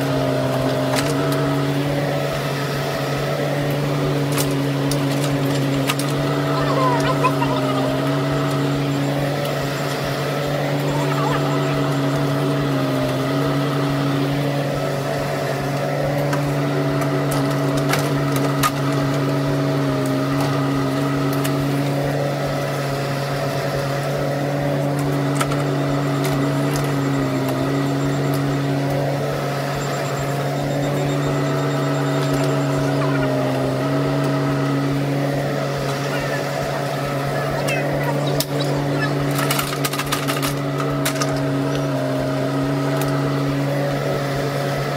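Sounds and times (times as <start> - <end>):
diesel excavator engine running: 0.0 - 44.9.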